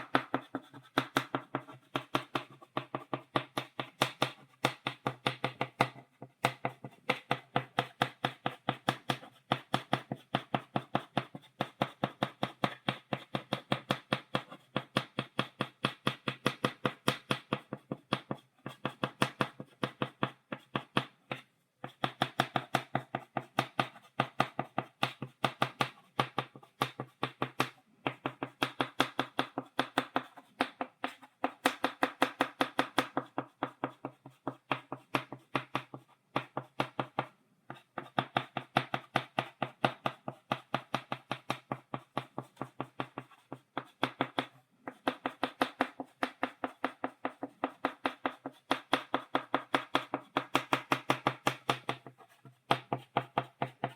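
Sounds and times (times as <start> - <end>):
chalk tapping on a blackboard: 0.0 - 53.9.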